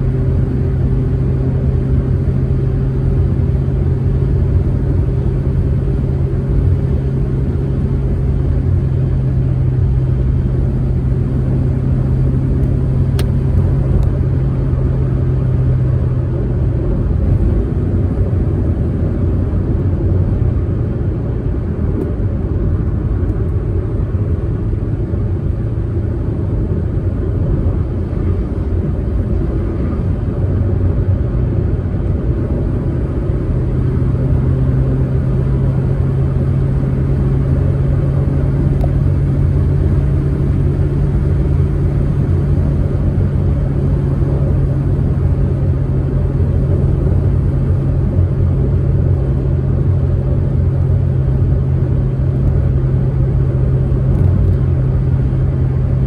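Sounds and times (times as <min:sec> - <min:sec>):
car engine hum: 0:00.0 - 0:56.0
tyre and road rumble: 0:00.0 - 0:56.0.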